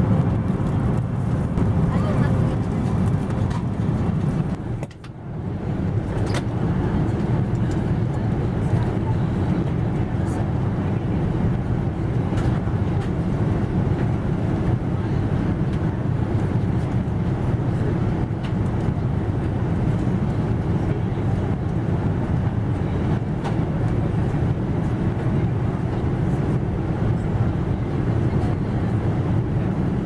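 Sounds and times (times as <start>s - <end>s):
airliner cabin rumble: 0.0s - 30.0s.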